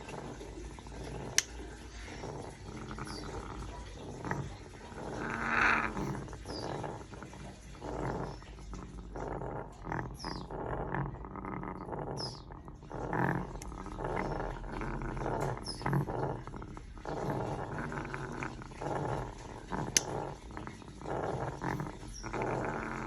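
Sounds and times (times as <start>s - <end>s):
parrot growling: 0.0s - 23.0s.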